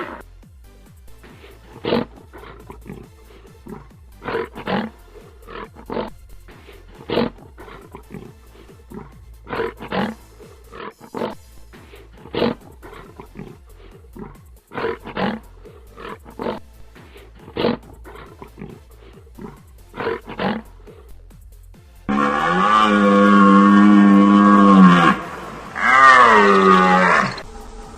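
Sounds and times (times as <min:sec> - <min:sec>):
large animal calling: 0:00.0 - 0:00.2, 0:01.2 - 0:11.4, 0:12.1 - 0:20.7, 0:22.1 - 0:27.5
background music: 0:00.0 - 0:27.9.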